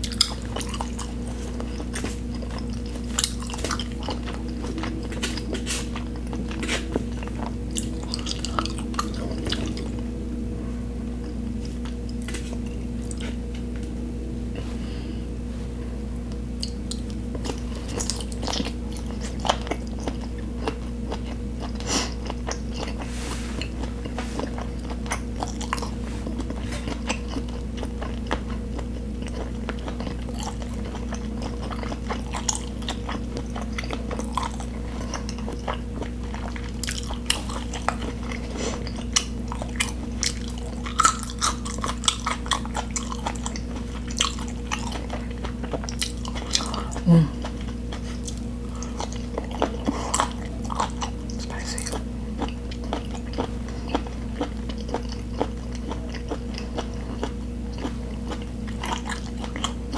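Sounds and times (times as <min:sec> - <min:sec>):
close chewing and biting: 0:00.0 - 0:10.0, 0:16.6 - 0:59.9
low electrical hum: 0:00.0 - 0:59.9.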